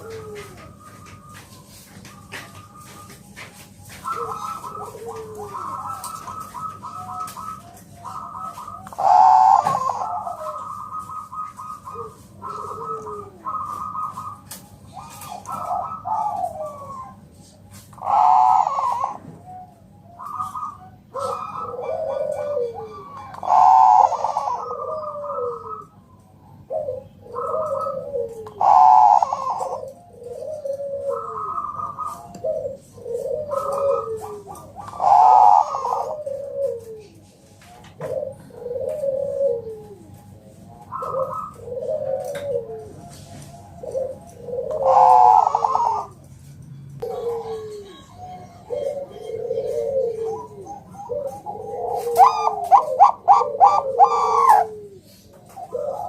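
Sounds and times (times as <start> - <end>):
doves cooing in trilled phrases: 0.0 - 56.0.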